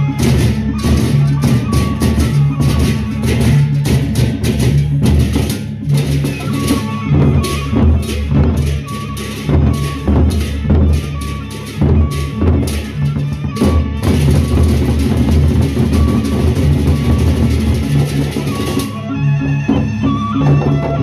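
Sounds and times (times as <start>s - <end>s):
hand cymbals clashing: 0.0s - 19.0s
barrel drums beating: 0.0s - 21.0s.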